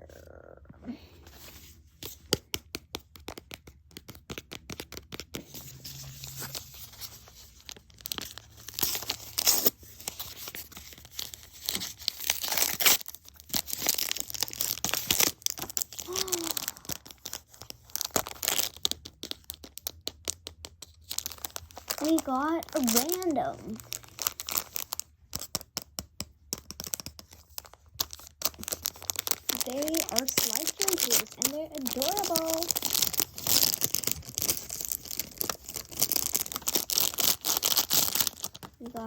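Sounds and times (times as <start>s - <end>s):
plastic wrapper tearing and crinkling: 3.2s - 25.9s, 26.5s - 39.0s.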